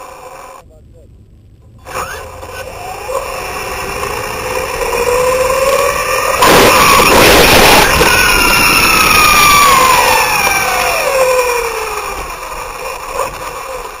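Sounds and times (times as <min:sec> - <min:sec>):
rough rush of noise: 0:00.0 - 0:14.0
motor whine falling in pitch: 0:01.2 - 0:14.0.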